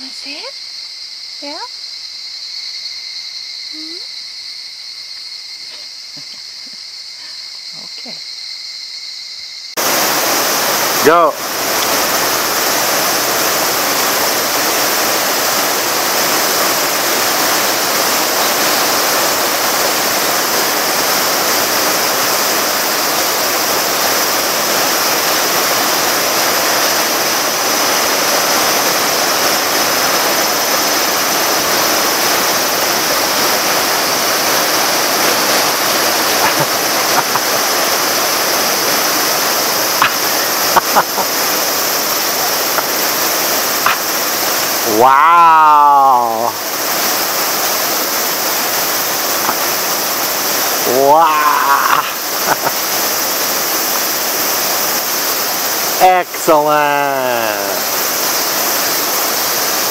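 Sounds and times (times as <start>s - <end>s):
water splashing into a pond: 9.8s - 59.9s.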